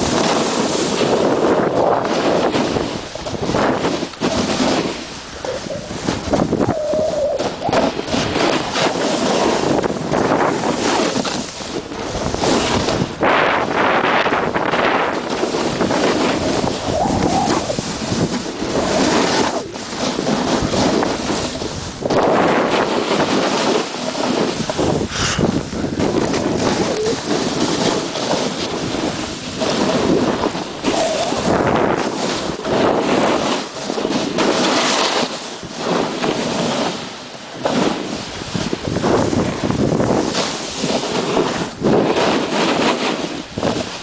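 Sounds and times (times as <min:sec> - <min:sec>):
skis hissing over snow: 0:00.0 - 0:44.0
wind buffeting microphone: 0:00.0 - 0:44.0.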